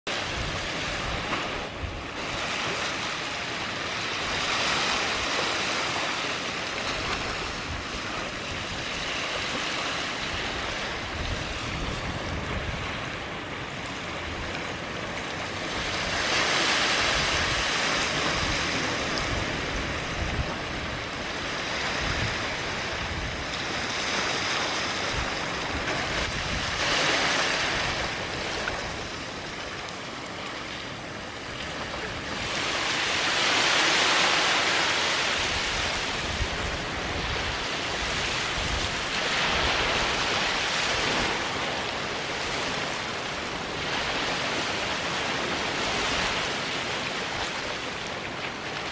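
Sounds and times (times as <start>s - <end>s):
ocean waves breaking on beach: 0.1s - 48.9s.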